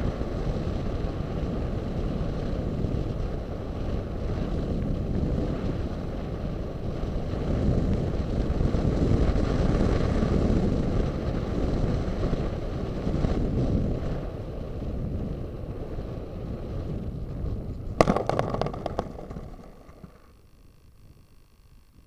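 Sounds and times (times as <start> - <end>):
wind rushing over camera: 0.0 - 22.0.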